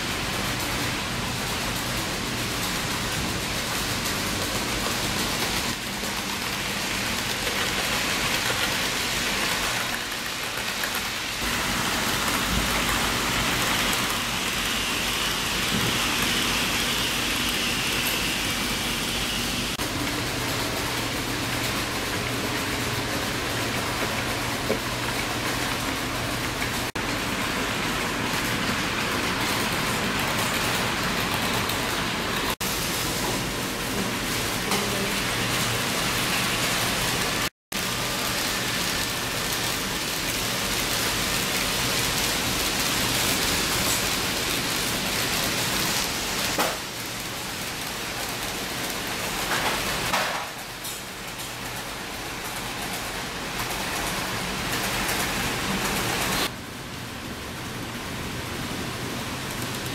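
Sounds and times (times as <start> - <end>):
model trains whirring on track: 0.0 - 59.9.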